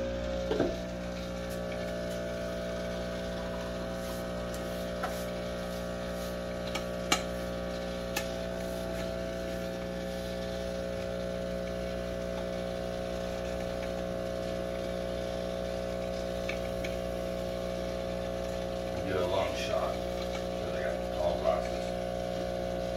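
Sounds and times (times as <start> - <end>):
appliance electrical hum: 0.0 - 22.9.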